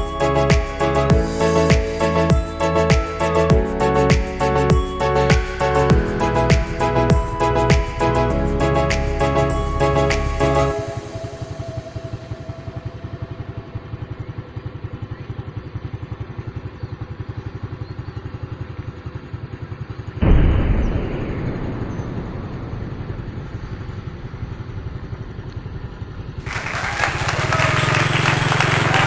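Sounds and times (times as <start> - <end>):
engine running with rapid pulse: 0.0 - 29.0.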